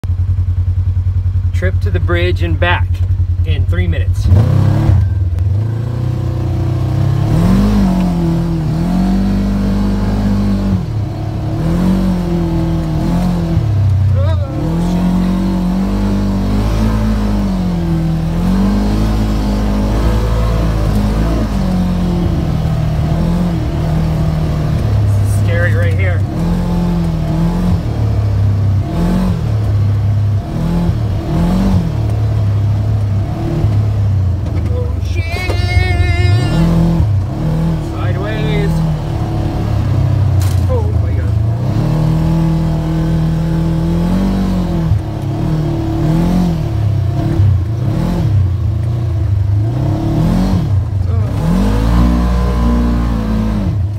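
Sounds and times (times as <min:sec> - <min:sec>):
engine revving: 0:00.0 - 0:53.9.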